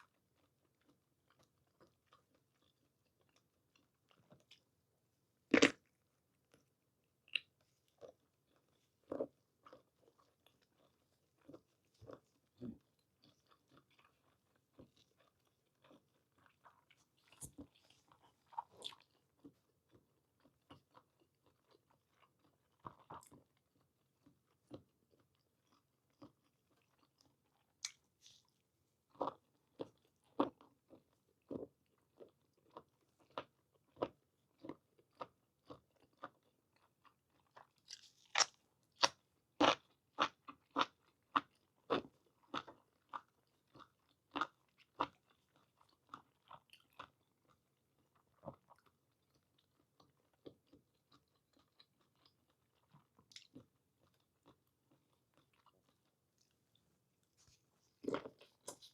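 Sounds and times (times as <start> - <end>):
person chewing wet mouth sounds: 7.2 - 56.6, 57.4 - 58.9.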